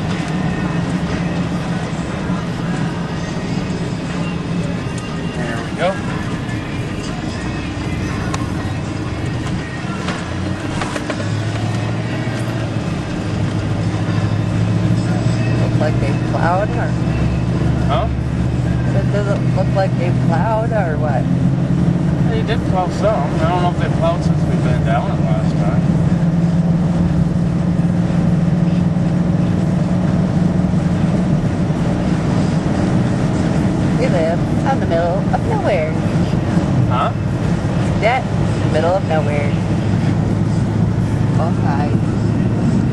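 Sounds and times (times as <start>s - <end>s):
road noise: 0.0s - 42.9s
vehicle engine drone: 0.0s - 42.9s.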